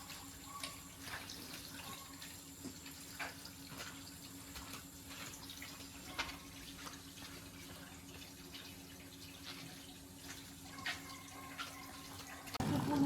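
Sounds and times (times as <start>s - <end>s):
faint water running: 0.0s - 13.0s.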